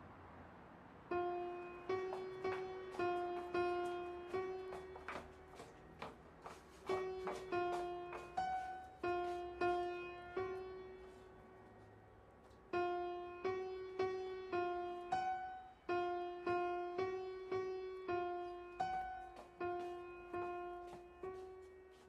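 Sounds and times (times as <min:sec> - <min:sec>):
solo piano notes: 0:01.1 - 0:22.0.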